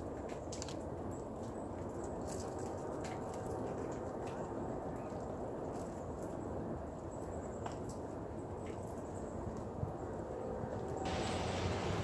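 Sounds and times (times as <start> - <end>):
low outdoor rush: 0.0 - 12.0.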